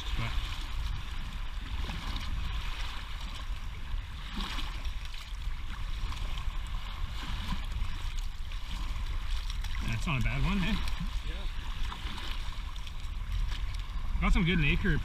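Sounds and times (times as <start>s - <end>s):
waves washing over stones: 0.0s - 15.0s.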